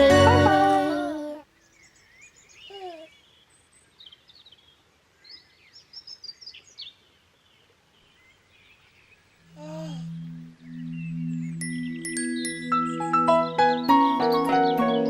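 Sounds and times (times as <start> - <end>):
songbirds chirping and trilling: 1.4 - 15.0.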